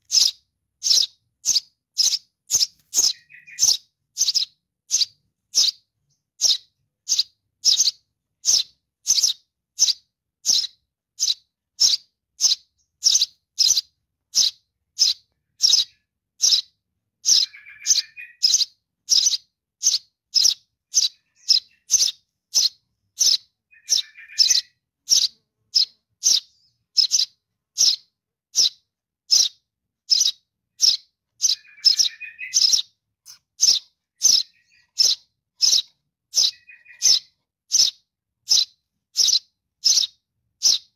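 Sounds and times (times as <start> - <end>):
bird chick chirping: 0.0 - 40.9
lower chattering bird call: 0.0 - 40.9.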